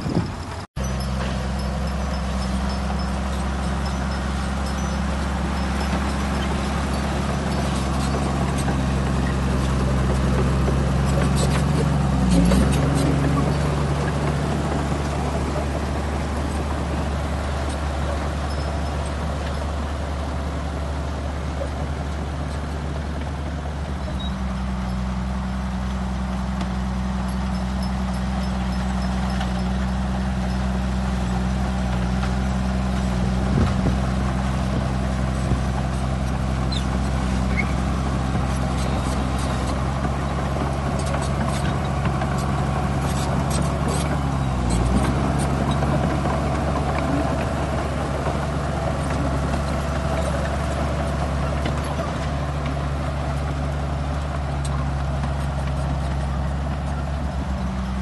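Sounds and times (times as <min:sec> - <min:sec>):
bulldozer diesel engines droning: 0:00.0 - 0:58.0.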